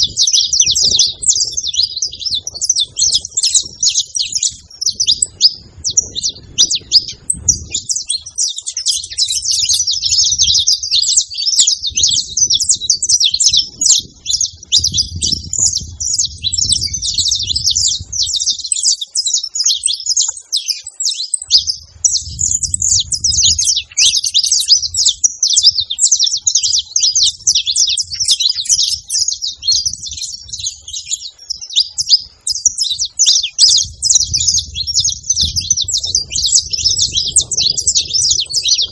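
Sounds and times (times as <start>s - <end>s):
finches chirping and trilling: 0.0s - 38.9s.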